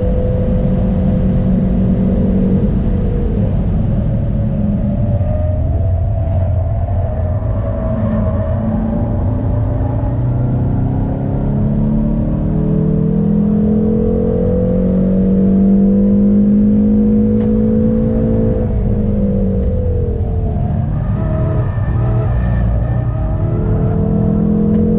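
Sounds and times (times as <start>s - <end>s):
car engine pulling hard: 0.0s - 24.9s.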